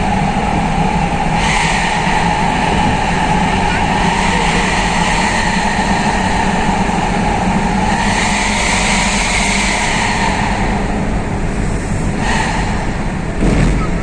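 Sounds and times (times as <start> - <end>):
van engine droning through exhaust: 0.0 - 14.0.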